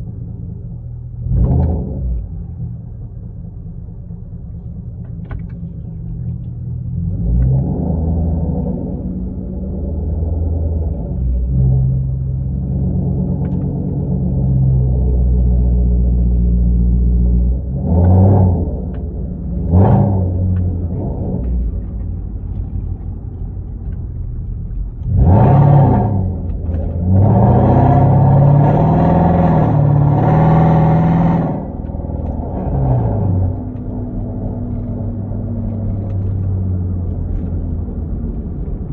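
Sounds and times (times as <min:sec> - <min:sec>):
car engine accelerating: 0:00.0 - 0:38.9
car engine revving: 0:05.2 - 0:38.9.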